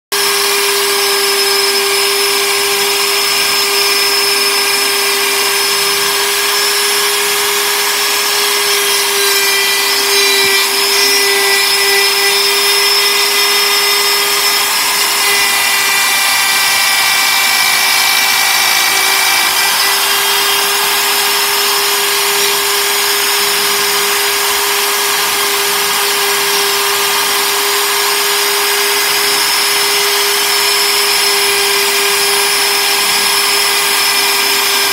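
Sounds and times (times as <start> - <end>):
router spindle whine: 0.1 - 34.9
hiss of cutting wood: 1.1 - 34.9.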